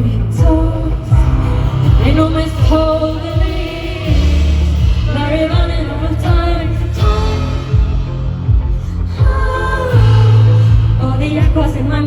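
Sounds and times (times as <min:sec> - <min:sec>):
kick-drum beat: 0:00.0 - 0:11.9
bass: 0:00.0 - 0:12.0
woman singing: 0:00.0 - 0:12.0.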